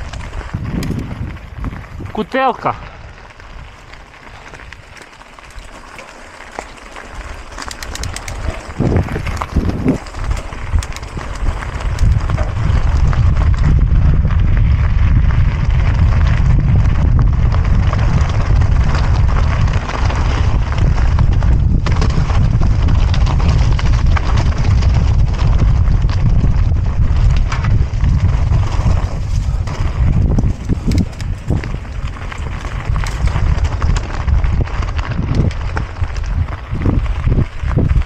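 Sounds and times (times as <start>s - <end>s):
wind noise on microphone: 0.0s - 5.8s, 6.8s - 38.0s
bike rattling: 0.0s - 38.0s
tyres crunching over dirt and rocks: 0.0s - 38.0s.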